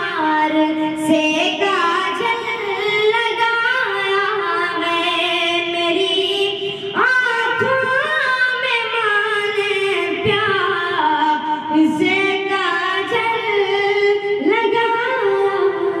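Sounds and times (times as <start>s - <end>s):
boy singing unaccompanied: 0.0s - 16.0s.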